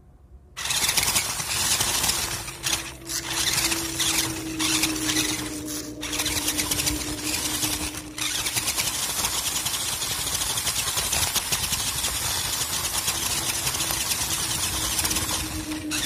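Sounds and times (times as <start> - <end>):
rc truck motor whine: 0.6 - 16.0.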